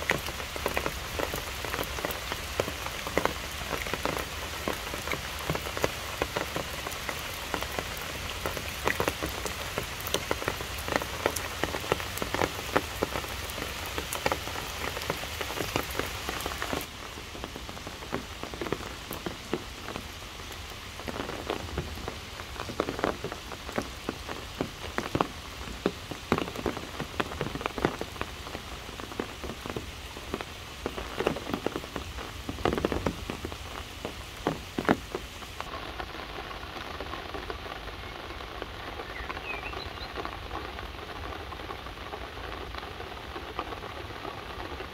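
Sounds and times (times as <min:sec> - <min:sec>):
rain falling through trees: 0:00.0 - 0:44.9
raindrops striking close by: 0:00.0 - 0:44.9.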